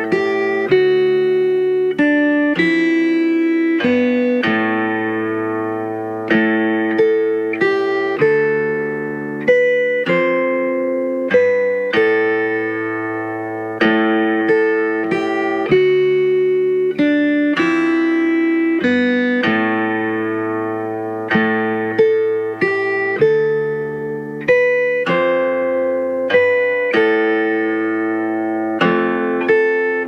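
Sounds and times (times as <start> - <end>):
plucked string melody: 0.0 - 30.0.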